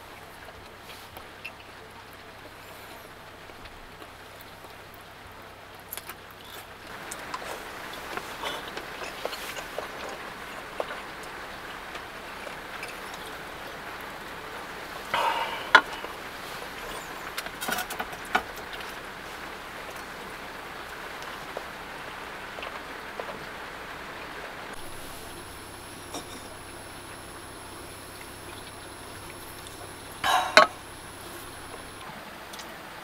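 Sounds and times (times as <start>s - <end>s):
heavy rain drumming on van roof: 0.0s - 33.0s.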